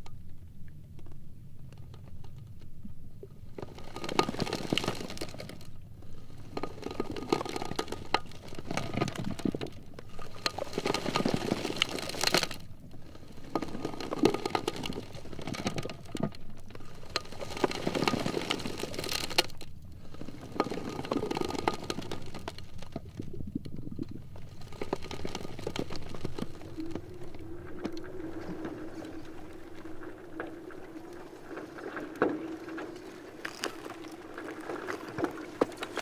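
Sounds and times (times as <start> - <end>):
ice floes grinding together: 3.6 - 16.1, 16.8 - 36.0.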